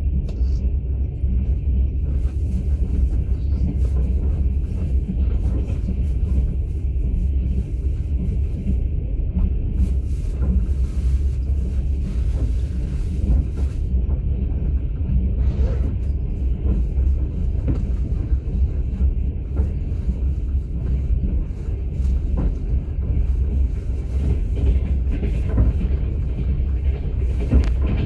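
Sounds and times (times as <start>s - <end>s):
train carriage rumbling: 0.0s - 28.0s.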